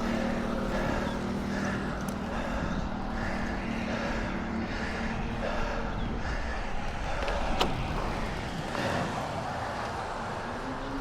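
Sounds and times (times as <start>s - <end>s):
road traffic noise: 0.0s - 11.0s
wind on microphone: 0.0s - 11.0s.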